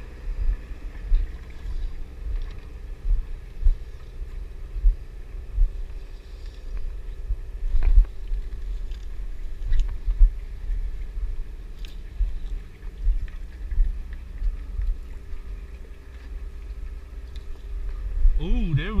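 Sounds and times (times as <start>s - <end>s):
boat machine hum: 0.0s - 19.0s
wind buffeting microphone: 0.0s - 19.0s.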